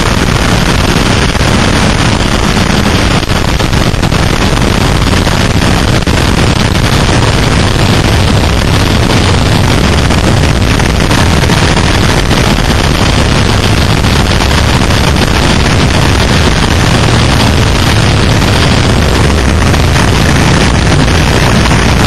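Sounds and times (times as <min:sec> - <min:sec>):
motorcycle engine and wind roar: 0:00.0 - 0:22.0.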